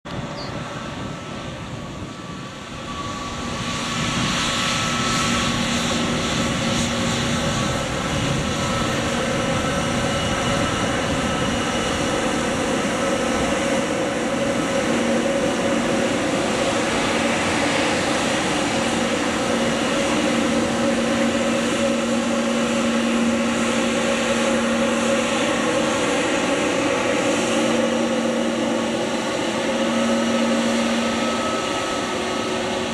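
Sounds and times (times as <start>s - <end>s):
jet engines whining: 0.1s - 32.9s.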